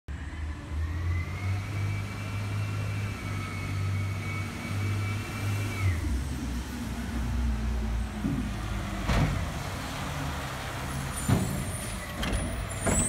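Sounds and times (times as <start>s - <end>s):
garbage truck engine hum: 0.1s - 13.0s.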